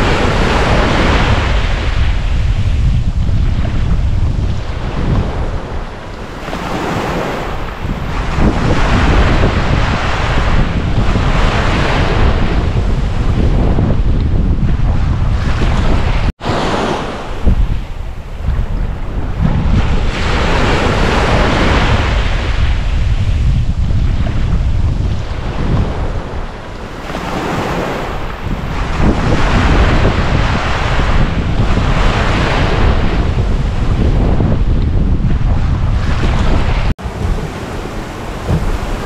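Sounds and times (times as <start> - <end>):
ocean waves breaking: 0.0 - 39.0
wind buffeting microphone: 0.0 - 39.0.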